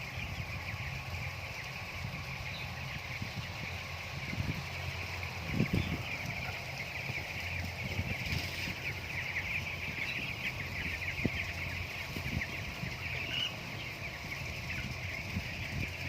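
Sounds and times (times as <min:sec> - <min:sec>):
chickens peeping: 0:00.0 - 0:16.0.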